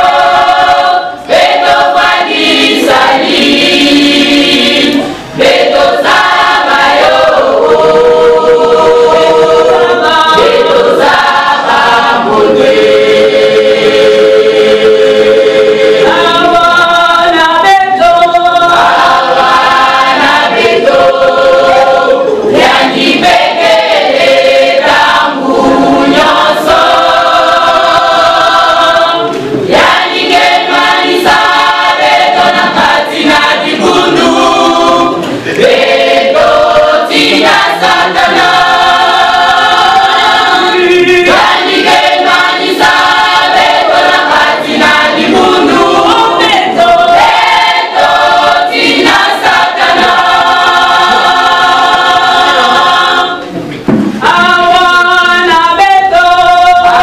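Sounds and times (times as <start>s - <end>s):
women's choir singing a cappella: 0.0s - 57.0s.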